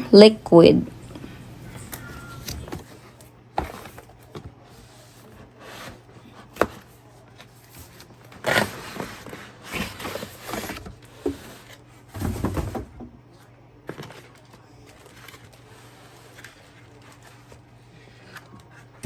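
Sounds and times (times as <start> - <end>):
rustling and scraping of items: 1.0 - 19.0.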